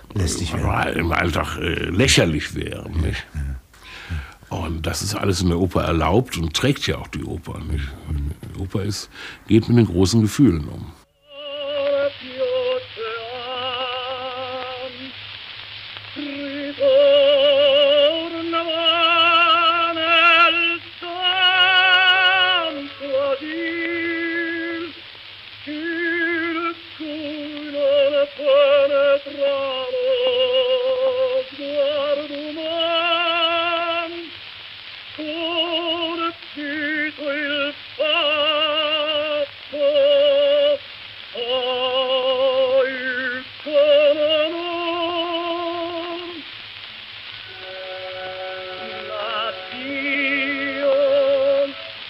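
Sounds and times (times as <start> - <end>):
operatic singing with vibrato: 0.0 - 6.2, 11.1 - 15.2, 16.1 - 25.0, 25.6 - 34.4, 35.2 - 46.5, 47.3 - 52.0.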